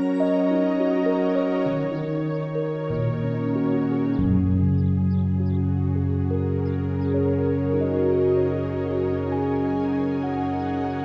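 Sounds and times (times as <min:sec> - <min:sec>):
calm ambient music with chords: 0:00.0 - 0:11.0.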